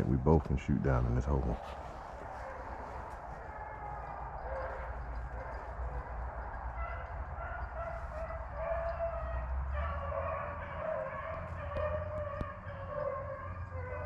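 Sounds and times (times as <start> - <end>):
hounds baying: 1.5 - 14.0.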